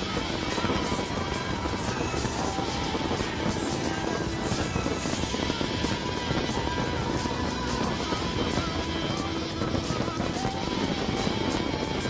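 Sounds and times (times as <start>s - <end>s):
fireworks bangs and crackles: 0.0s - 12.0s
music soundtrack: 0.0s - 12.0s.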